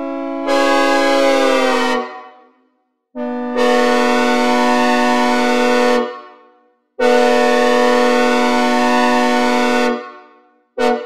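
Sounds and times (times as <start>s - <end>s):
locomotive air horn blasts: 0.0s - 2.5s, 3.2s - 11.0s.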